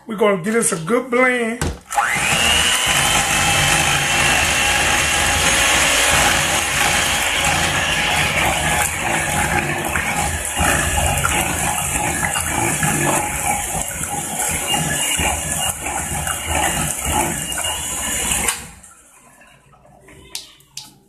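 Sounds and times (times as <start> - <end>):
electric mixer running: 1.8 - 18.9.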